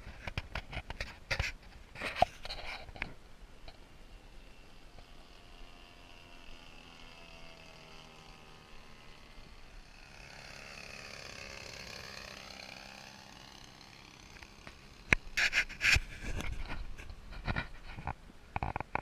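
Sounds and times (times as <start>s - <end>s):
model plane engine passing: 1.0s - 18.9s.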